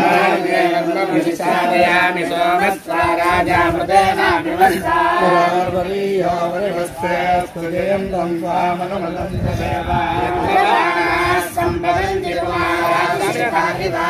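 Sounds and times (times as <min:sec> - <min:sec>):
men chanting together: 0:00.0 - 0:14.0.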